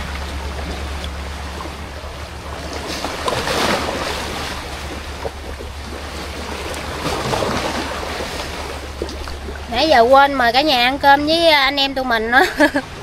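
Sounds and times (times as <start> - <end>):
sea waves washing: 0.0 - 13.0
steady low rumble: 0.0 - 13.0.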